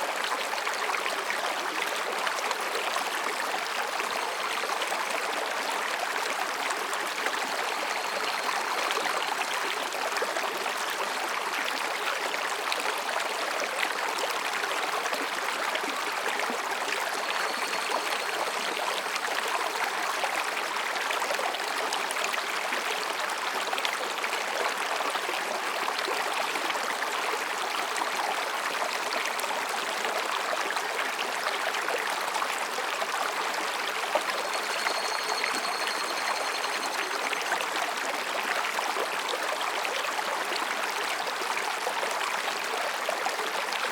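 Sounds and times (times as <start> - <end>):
stream babbling over rocks: 0.0 - 43.9.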